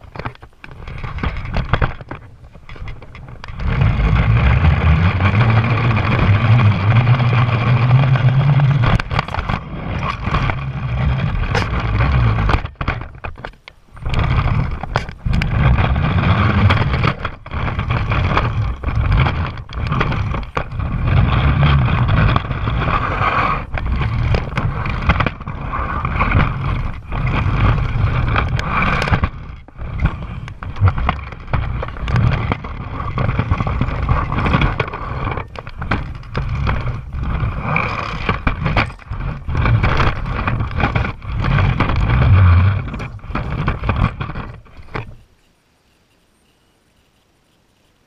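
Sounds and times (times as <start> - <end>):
wheels rolling on wooden floor: 0.0 - 47.2.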